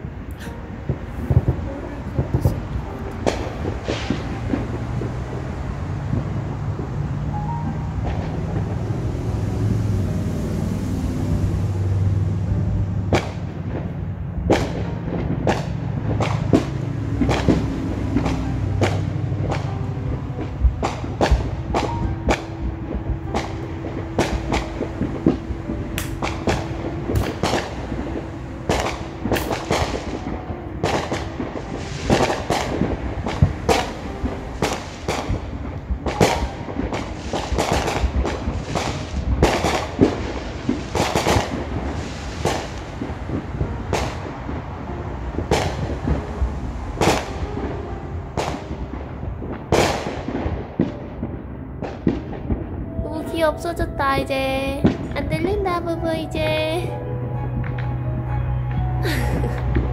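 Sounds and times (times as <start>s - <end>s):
fireworks bangs and crackles: 0.0s - 10.0s, 10.6s - 57.0s, 58.7s - 59.9s
continuous low rumble: 0.0s - 59.9s.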